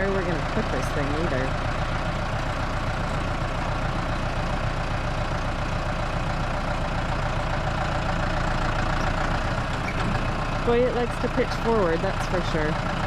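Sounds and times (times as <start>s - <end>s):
heavy engine idling: 0.0s - 13.0s.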